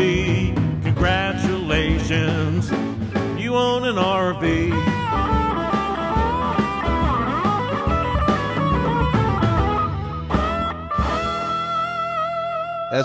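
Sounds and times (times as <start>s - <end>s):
country blues song with band: 0.0s - 12.5s
sliding lead guitar: 0.0s - 13.0s.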